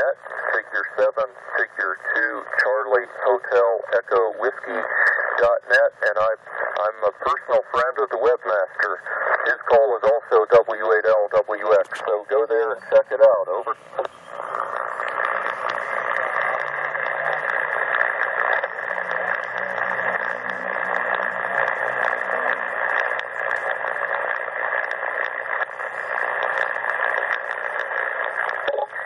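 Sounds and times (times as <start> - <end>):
radio static hiss: 0.0 - 29.0
static crackles: 0.0 - 29.0.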